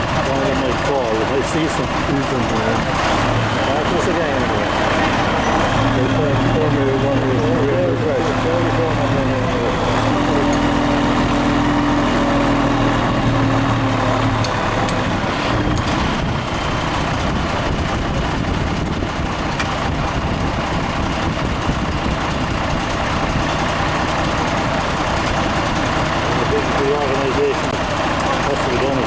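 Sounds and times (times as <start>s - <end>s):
heavy vehicle engine running: 0.0s - 29.0s.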